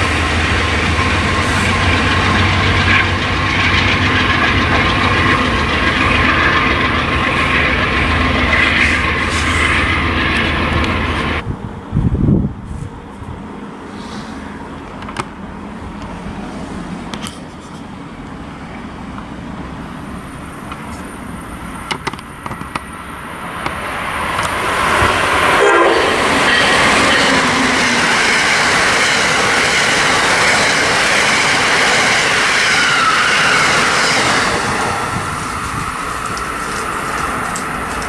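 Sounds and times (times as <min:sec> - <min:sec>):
wheels clattering on rails: 0:00.0 - 0:11.4, 0:14.8 - 0:38.0
train passing at speed: 0:00.0 - 0:38.0.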